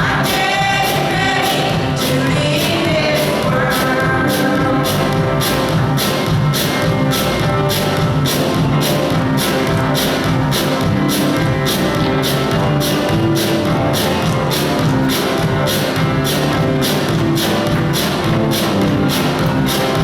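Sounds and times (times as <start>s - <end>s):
band playing instrumental music: 0.0s - 20.0s.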